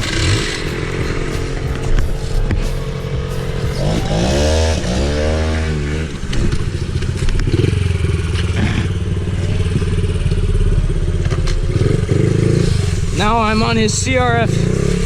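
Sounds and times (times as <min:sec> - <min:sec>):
small motorbike engine revving: 0:00.0 - 0:13.8, 0:14.4 - 0:15.0.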